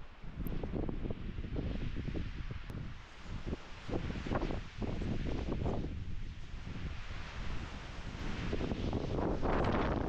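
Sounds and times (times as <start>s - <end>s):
storm wind buffeting microphone: 0.3s - 10.0s.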